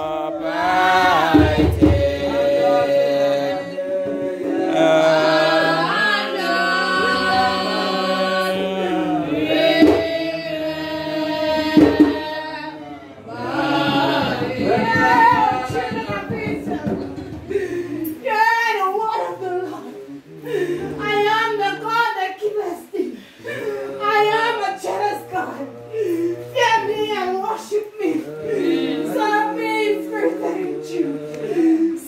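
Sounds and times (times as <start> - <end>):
voices singing a slow hymn: 0.0 - 32.0.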